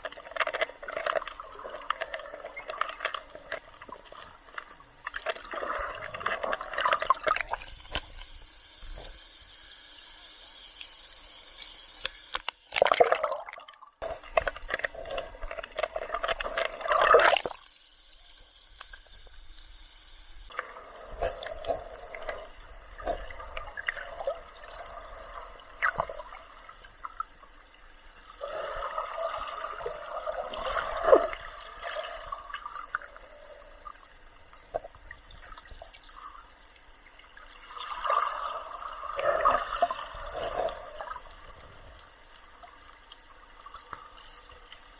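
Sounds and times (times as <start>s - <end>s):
water gurgling and sloshing: 0.0s - 44.9s.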